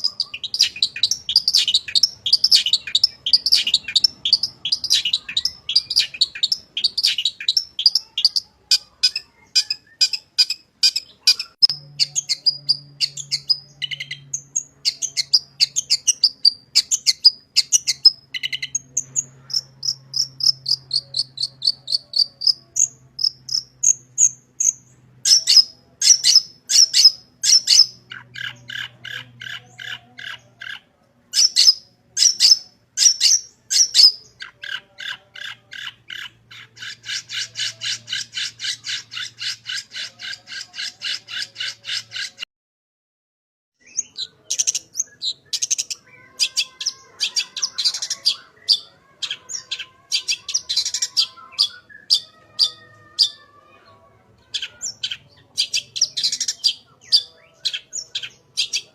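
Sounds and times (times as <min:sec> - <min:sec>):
bird singing: 0:00.0 - 0:42.4, 0:43.8 - 0:58.9.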